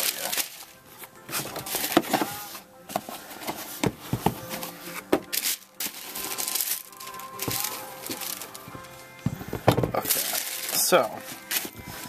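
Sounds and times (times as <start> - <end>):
paper packing rustling: 0.0 - 12.0.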